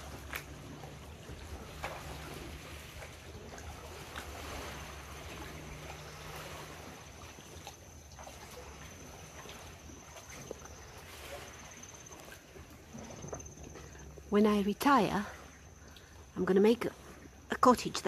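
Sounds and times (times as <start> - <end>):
high insect whine: 0.0 - 17.9
water sloshing around canoe: 0.0 - 18.0.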